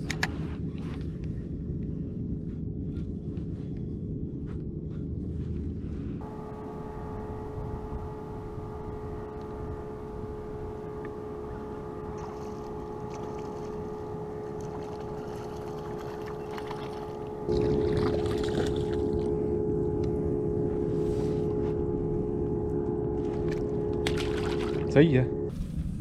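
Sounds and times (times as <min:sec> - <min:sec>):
boat motor humming: 0:00.0 - 0:25.7.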